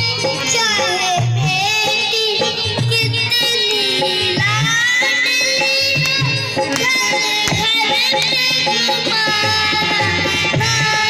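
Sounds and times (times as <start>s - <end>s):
child singing into a microphone: 0.0s - 11.0s
tabla drum strokes: 0.0s - 11.0s.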